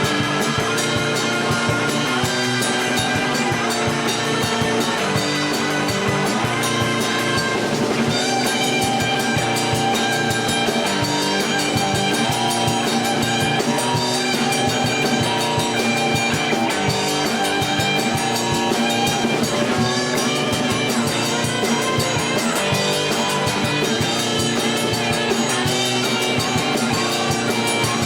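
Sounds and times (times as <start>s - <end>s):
drum kit: 0.0s - 28.0s
electric guitar: 0.0s - 28.0s.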